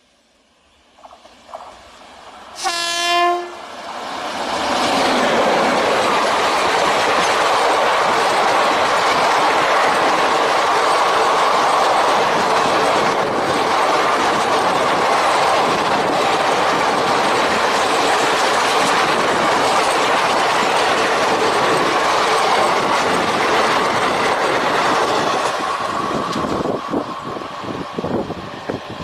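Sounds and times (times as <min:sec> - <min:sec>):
train wheels clattering on rails: 0:01.0 - 0:01.9, 0:04.3 - 0:27.1.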